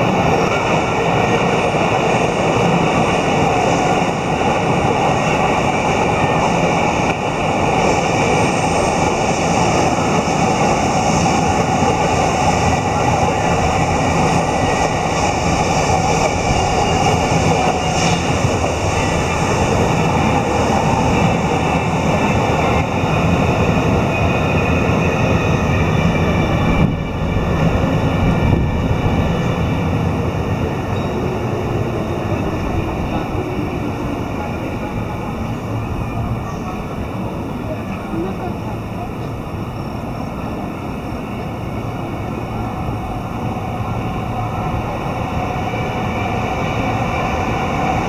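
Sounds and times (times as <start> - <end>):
train wheels running on rails: 0.0 - 48.0
train whine: 0.0 - 48.0.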